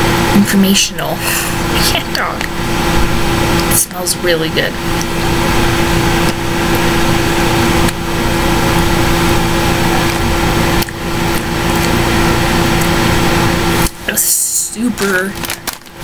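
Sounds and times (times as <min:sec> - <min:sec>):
loud microphone hiss and hum: 0:00.0 - 0:16.0.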